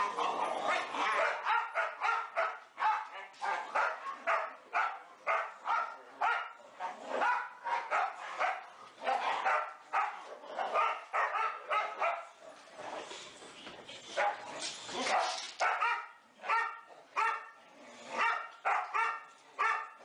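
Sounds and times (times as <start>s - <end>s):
dogs barking: 0.0s - 12.4s, 14.1s - 20.0s.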